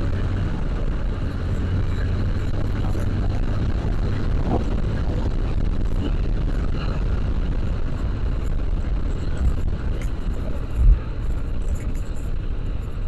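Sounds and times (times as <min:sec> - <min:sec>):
motorcycle engine and tyre noise: 0:00.0 - 0:13.0
wind rumble on microphone: 0:00.0 - 0:13.0.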